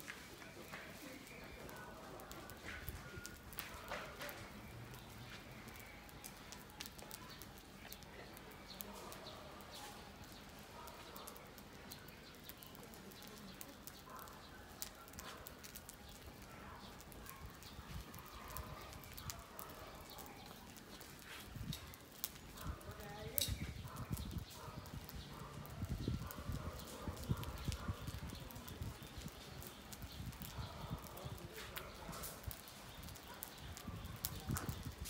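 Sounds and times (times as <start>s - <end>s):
matches crackling and ticking: 0.0s - 35.0s
flames flaring up: 0.1s - 35.0s.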